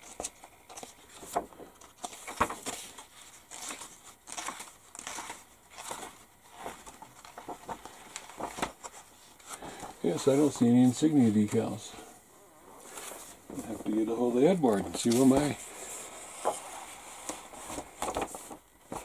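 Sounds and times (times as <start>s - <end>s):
paper rustling and crinkling: 0.0s - 11.9s, 12.8s - 19.0s.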